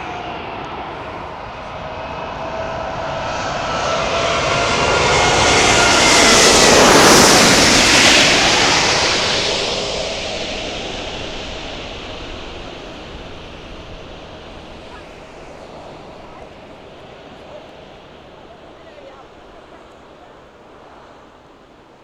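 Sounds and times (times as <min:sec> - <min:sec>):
jet airliner passing overhead: 0:00.0 - 0:22.0
whining engine tones: 0:00.0 - 0:22.0.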